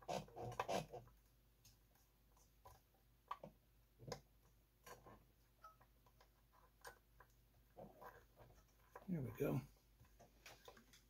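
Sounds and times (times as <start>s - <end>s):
faint clicks and taps: 0.2s - 11.0s.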